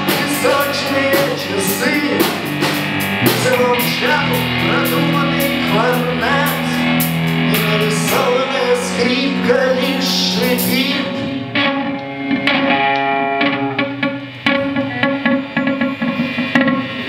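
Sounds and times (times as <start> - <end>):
guitar playing: 0.0 - 17.0.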